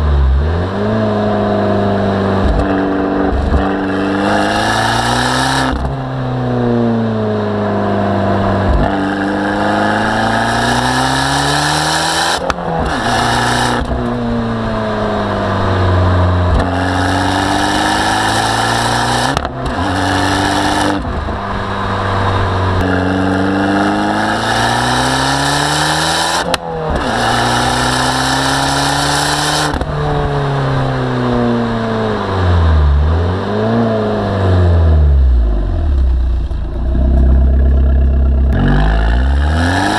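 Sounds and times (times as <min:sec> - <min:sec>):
car engine revving hard: 0:00.0 - 0:06.9, 0:07.8 - 0:35.8, 0:36.9 - 0:39.9.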